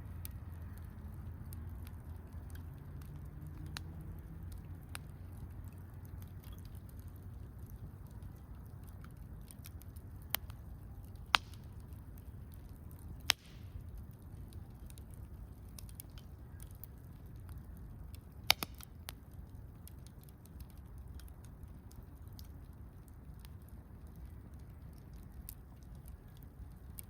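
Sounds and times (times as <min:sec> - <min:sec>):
campfire crackling: 0:00.0 - 0:27.0
low steady rumble: 0:00.0 - 0:27.0.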